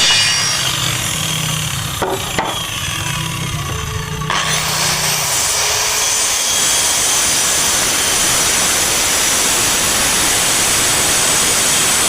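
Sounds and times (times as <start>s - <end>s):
power saw cutting wood: 0.0s - 12.0s.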